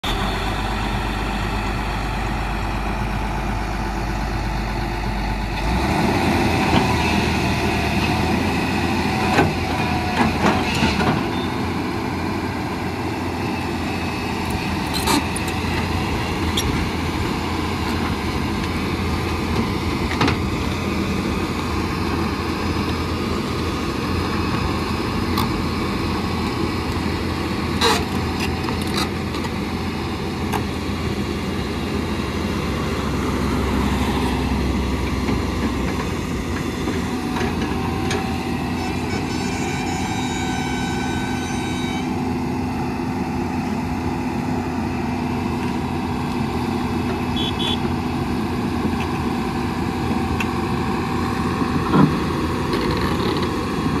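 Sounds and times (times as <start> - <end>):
heavy diesel excavator engine: 0.0 - 54.0.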